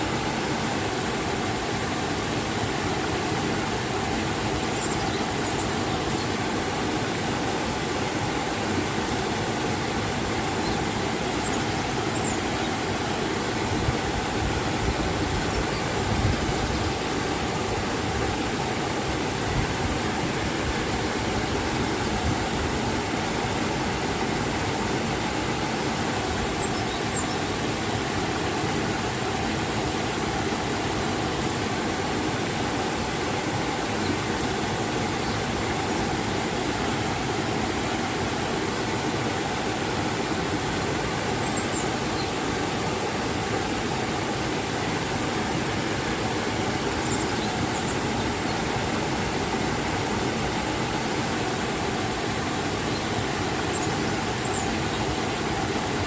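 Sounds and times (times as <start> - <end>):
waterfall water rushing: 0.0 - 56.0.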